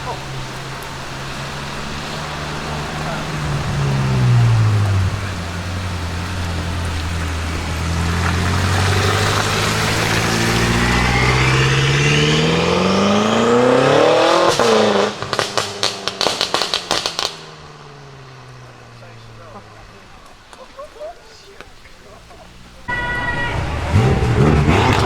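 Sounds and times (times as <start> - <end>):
car engine pulling hard: 0.0 - 25.0
exhaust crackles and pops: 0.0 - 25.0.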